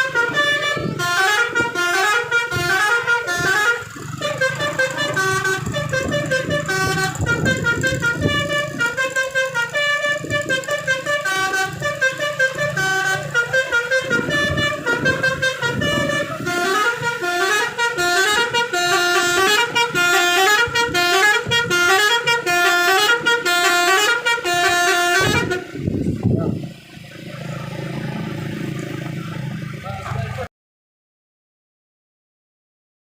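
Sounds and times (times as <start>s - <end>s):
bus multi-tone musical horn: 0.0s - 26.7s.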